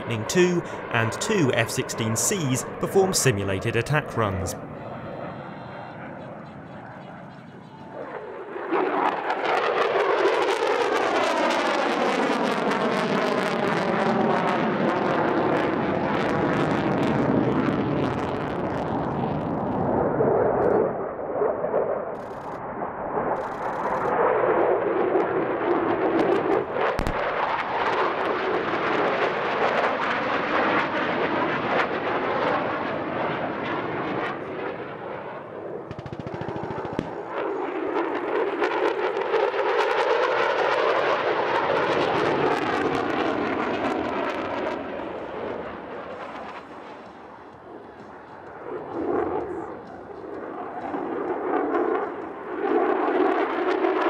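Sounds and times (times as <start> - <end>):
jet engines roaring: 0.0 - 21.9, 24.1 - 54.0.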